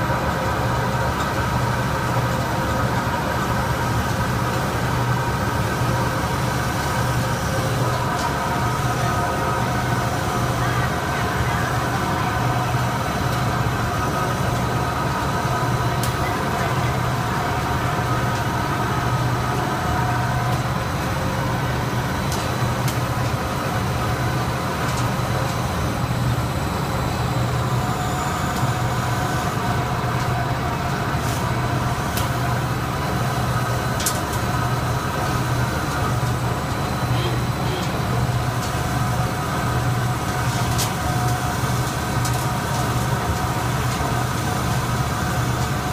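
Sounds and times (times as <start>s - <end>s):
textile machine humming: 0.0s - 45.9s.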